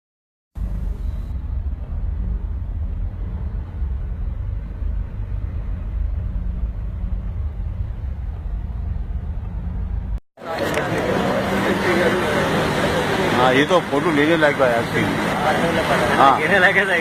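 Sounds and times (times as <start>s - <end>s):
car driving rumble: 0.6s - 17.0s.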